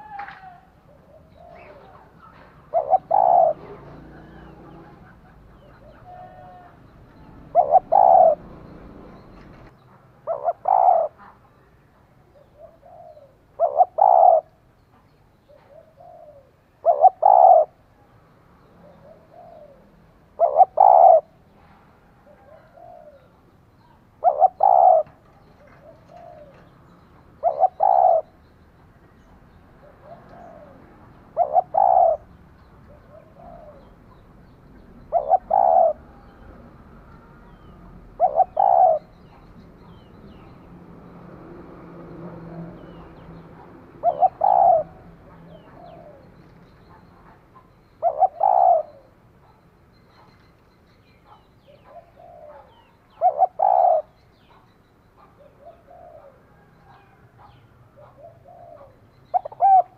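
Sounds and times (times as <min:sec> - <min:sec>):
dove cooing: 0:00.0 - 0:11.4, 0:12.3 - 0:14.7, 0:15.4 - 0:17.8, 0:18.8 - 0:21.5, 0:22.1 - 0:28.4, 0:29.5 - 0:49.6, 0:51.2 - 0:54.6, 0:55.2 - 0:59.9.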